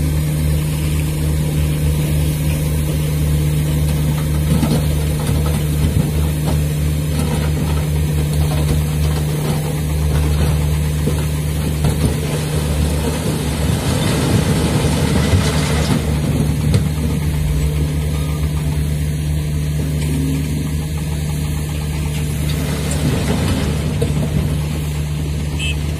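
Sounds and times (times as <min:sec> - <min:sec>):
truck diesel engine running: 0:00.0 - 0:25.9.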